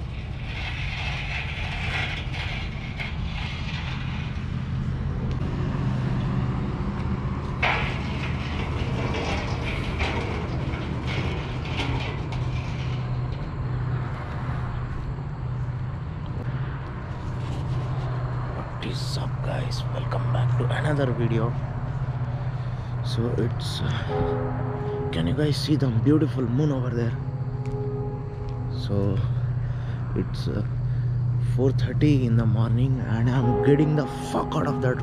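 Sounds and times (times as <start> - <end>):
vehicle engine droning: 0.0 - 35.0.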